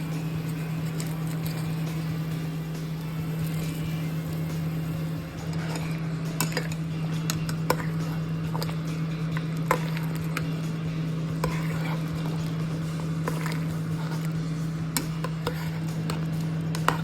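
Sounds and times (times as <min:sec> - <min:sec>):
steady low hum: 0:00.0 - 0:17.0
utensils clinking against pot: 0:00.1 - 0:02.2, 0:05.3 - 0:17.0.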